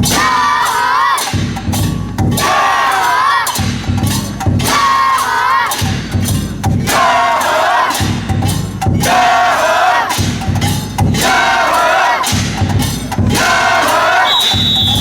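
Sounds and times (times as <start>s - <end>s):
heavy drum beats: 0.0s - 15.0s
men chanting in unison: 0.0s - 15.0s.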